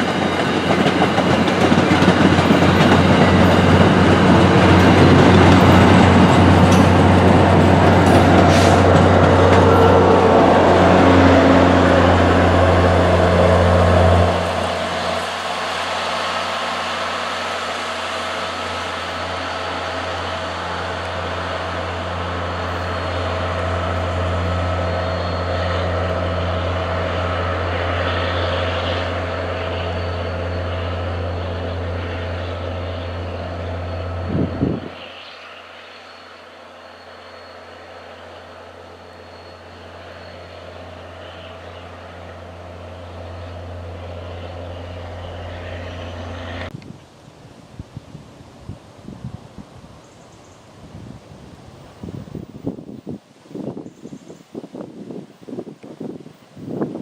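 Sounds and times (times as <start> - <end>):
locomotive engine droning: 0.0 - 47.7.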